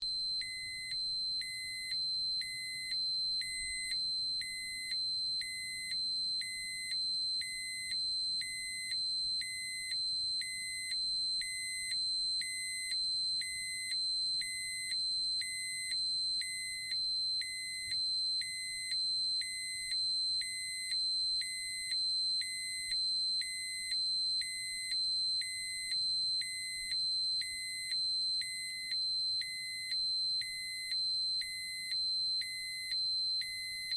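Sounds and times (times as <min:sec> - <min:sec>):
high-pitched dosimeter alarm tone: 0:00.0 - 0:33.9.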